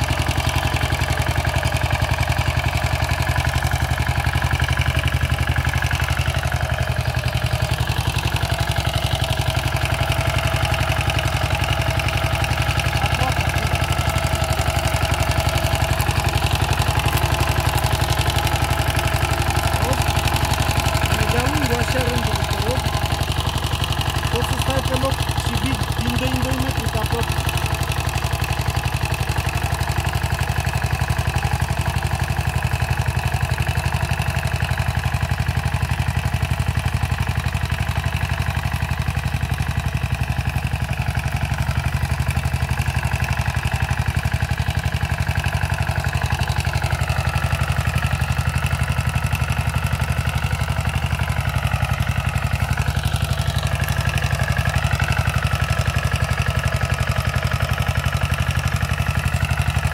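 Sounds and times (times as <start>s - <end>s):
tiller engine running: 0.0s - 59.9s.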